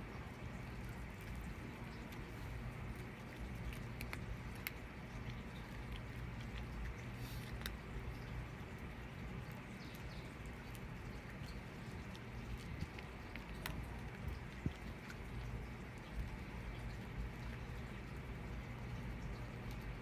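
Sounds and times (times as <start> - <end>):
cat chewing dry kibble: 0.0 - 20.0
low background rumble: 0.0 - 20.0.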